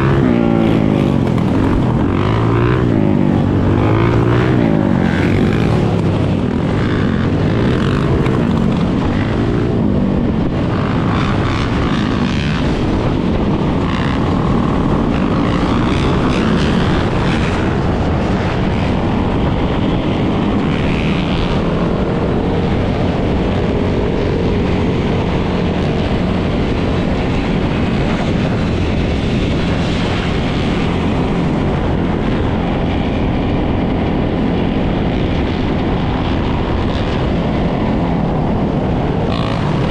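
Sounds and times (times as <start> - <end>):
dirt bike and atv engines droning: 0.0 - 39.9.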